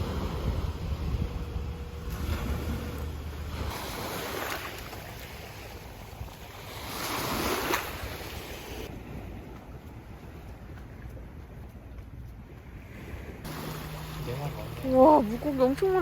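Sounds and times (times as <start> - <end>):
sea waves washing in: 0.0 - 9.6, 12.8 - 16.0
wind buffeting microphone: 0.0 - 16.0.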